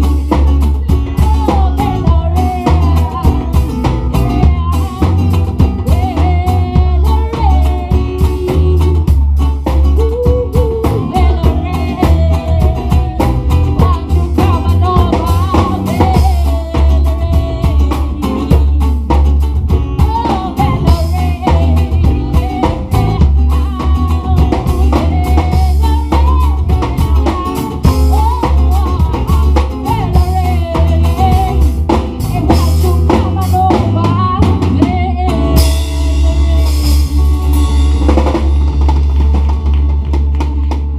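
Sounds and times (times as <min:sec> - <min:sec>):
hand drumming on djembes: 0:00.0 - 0:35.0
acoustic guitar: 0:00.0 - 0:40.9
drum kit: 0:00.0 - 0:40.9
heavy bass: 0:00.0 - 0:40.9.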